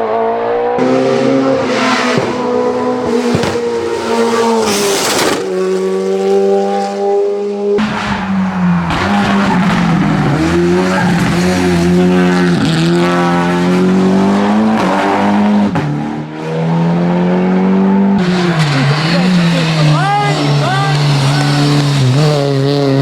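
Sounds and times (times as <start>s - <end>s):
race car engine revving: 0.0s - 23.0s.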